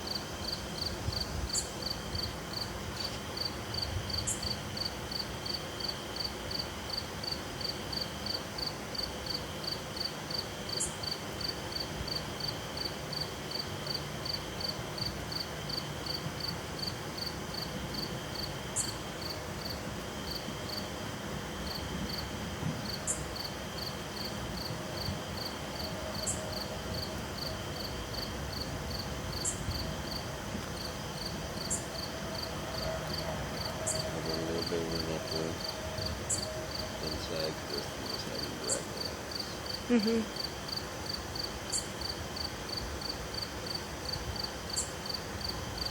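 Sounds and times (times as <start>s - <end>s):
cricket chirping: 0.0s - 21.0s, 21.6s - 45.9s
insects trilling: 0.0s - 45.9s.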